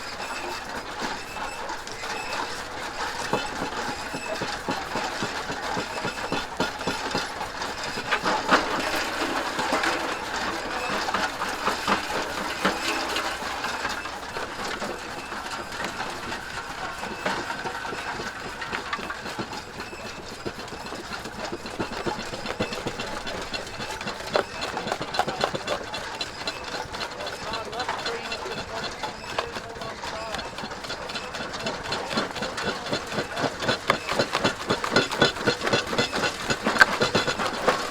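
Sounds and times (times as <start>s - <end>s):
machinery clattering: 0.0s - 37.9s.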